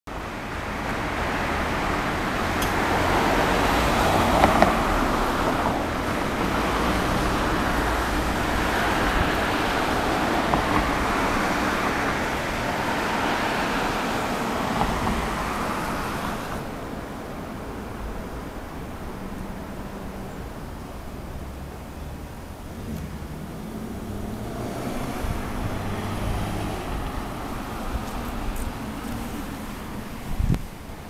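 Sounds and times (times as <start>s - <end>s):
vehicles passing: 0.1s - 31.0s.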